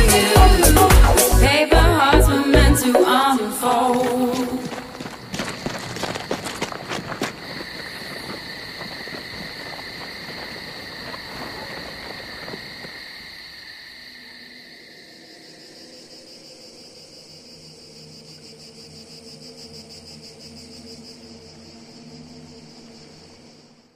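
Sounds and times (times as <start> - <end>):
cricket-like chirring: 2.8 - 23.9.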